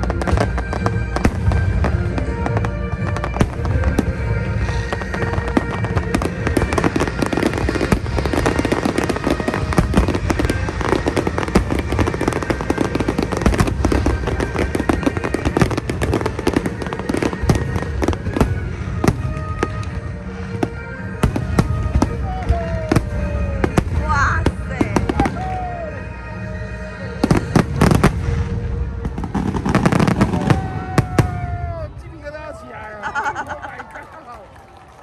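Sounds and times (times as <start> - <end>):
fireworks bangs and crackles: 0.0 - 35.0
music playing: 0.0 - 35.0.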